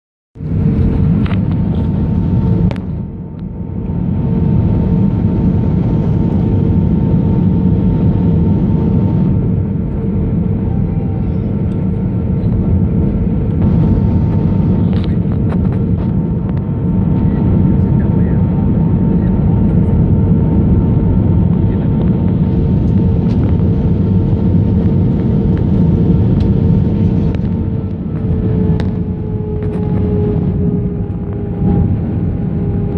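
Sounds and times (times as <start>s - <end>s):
airplane cabin engine rumble: 0.4s - 32.9s
droning tone: 0.4s - 32.9s.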